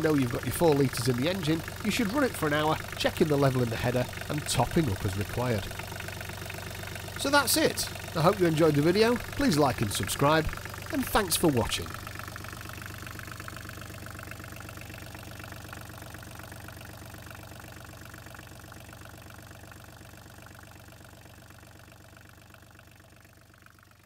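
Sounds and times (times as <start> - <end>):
marine diesel engine idling: 0.0 - 24.0.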